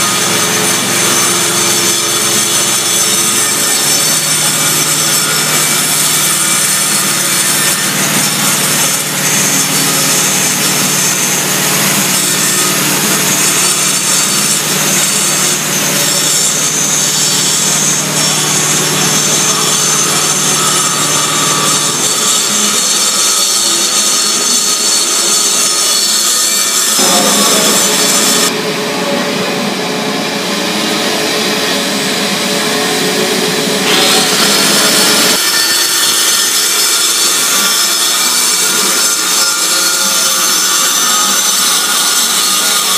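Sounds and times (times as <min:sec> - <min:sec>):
power tool on concrete: 0:00.0 - 0:42.9.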